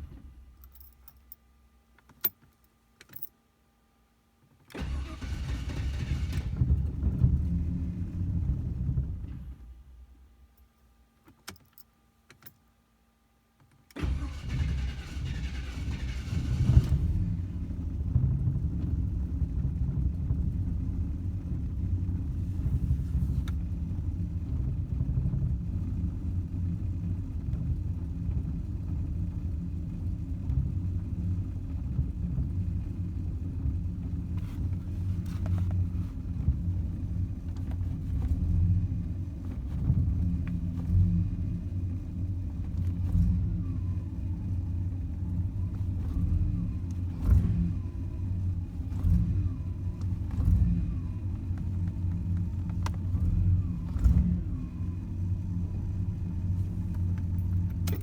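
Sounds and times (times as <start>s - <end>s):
car engine cranking and idling: 0.0s - 1.4s, 4.7s - 10.4s, 13.9s - 58.0s.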